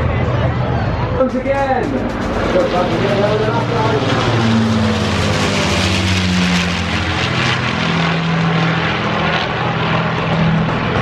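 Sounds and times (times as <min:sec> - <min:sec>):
propeller plane engines flying past: 0:00.0 - 0:11.0.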